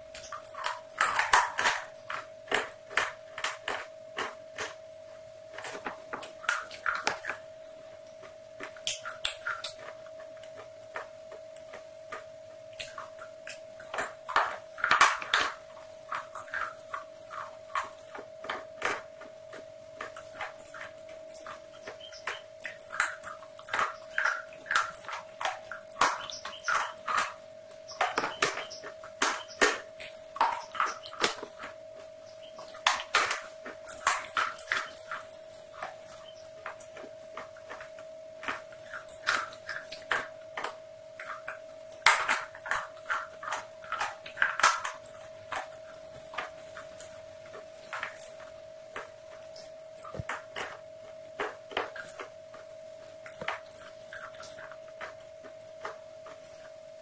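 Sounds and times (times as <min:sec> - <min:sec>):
chewing and crunching fried chicken: 0:00.0 - 0:57.0
faint steady hum: 0:00.0 - 0:57.0
mouth clicks: 0:05.6 - 0:56.8.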